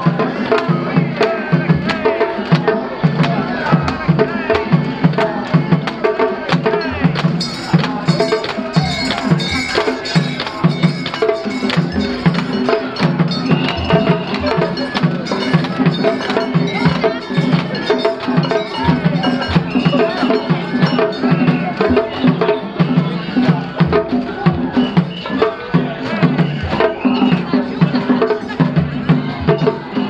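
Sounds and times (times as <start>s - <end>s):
taiko drums beating: 0.0s - 30.0s.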